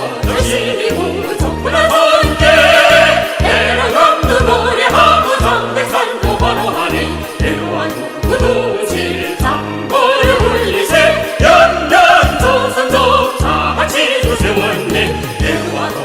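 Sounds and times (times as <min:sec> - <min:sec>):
square-dance music: 0:00.0 - 0:16.0.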